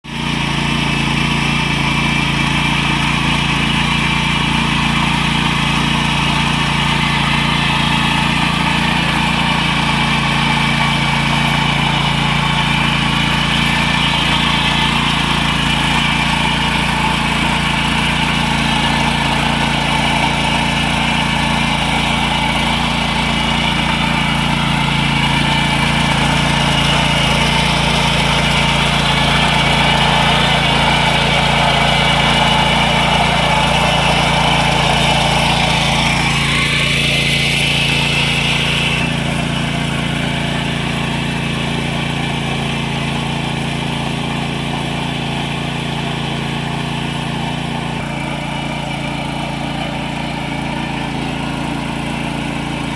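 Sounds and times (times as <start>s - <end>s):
small engine droning: 0.0s - 52.9s.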